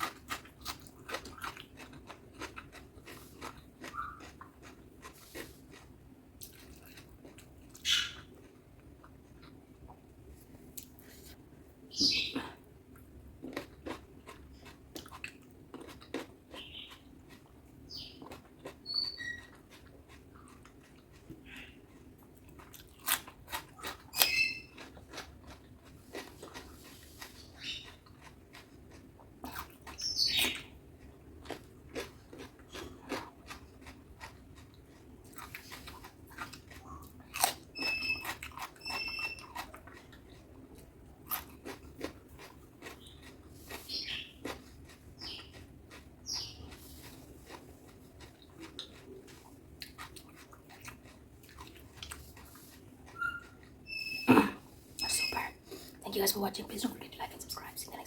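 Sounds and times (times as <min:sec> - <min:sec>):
wet chewing: 0:00.0 - 0:10.0, 0:13.4 - 0:56.0.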